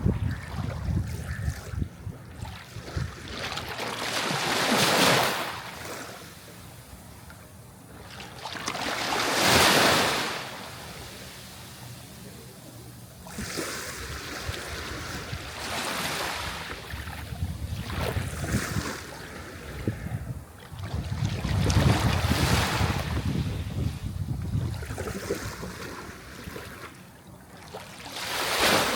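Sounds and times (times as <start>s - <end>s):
sea waves breaking on shore: 0.0s - 24.0s, 24.7s - 28.9s.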